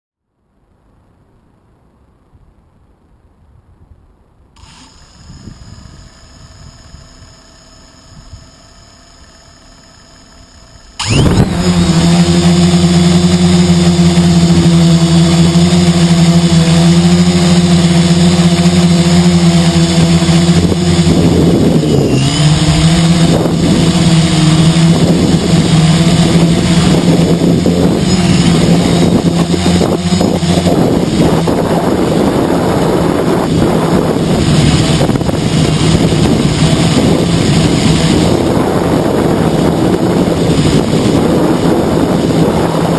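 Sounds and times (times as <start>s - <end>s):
wind on microphone: 4.6s - 9.4s, 10.9s - 42.9s
drone motors whining: 4.6s - 42.9s.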